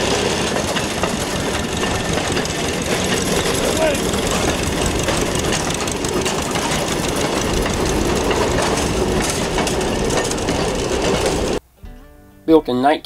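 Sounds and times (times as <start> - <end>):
train clattering: 0.0 - 11.6.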